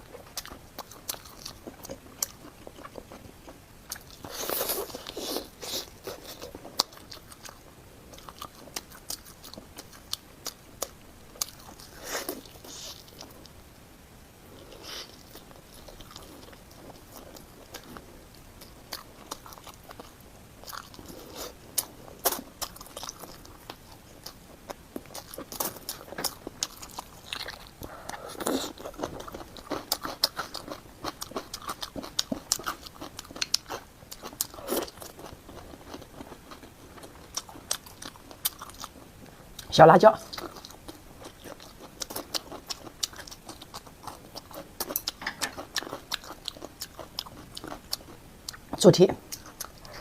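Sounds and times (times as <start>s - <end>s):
chewing and biting food: 0.0s - 13.6s, 14.6s - 50.0s.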